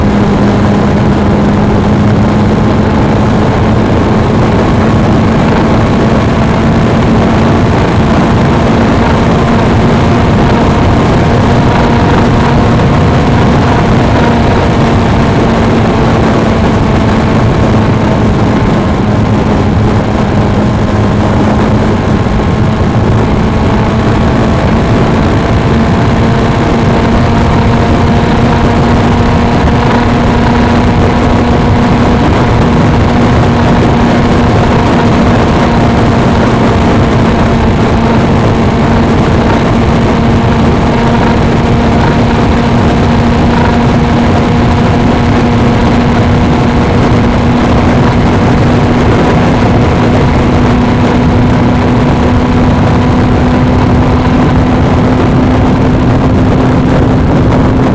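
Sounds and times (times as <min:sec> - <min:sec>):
motorcycle engine cruising: 0:00.0 - 0:57.9
wind noise on microphone: 0:00.0 - 0:57.9.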